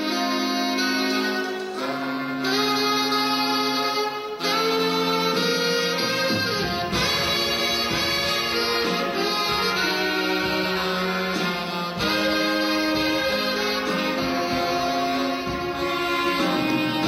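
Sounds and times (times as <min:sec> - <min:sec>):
saxophones playing chords: 0:00.0 - 0:17.0.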